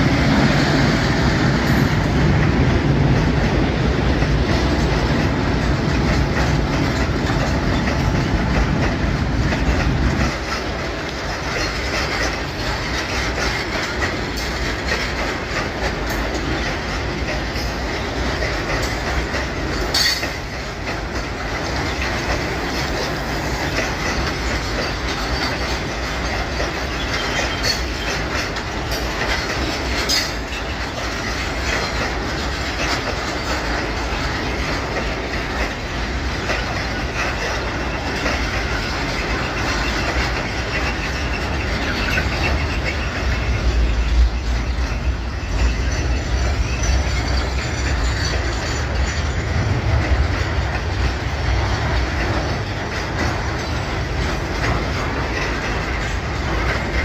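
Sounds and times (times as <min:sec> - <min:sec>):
freight wagons rumbling past: 0:00.0 - 0:57.0
wheels clicking over rail joints: 0:00.0 - 0:57.0.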